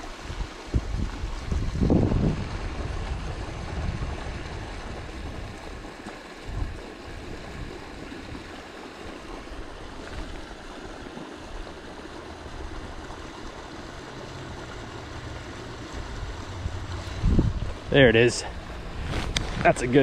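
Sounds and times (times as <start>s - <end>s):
creek rushing: 0.0s - 20.0s
wind buffeting microphone: 0.2s - 20.0s.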